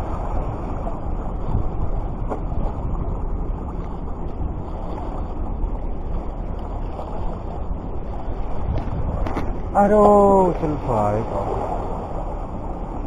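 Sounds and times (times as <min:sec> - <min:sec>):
sea rumbling: 0:00.0 - 0:13.0
wind: 0:00.0 - 0:13.0.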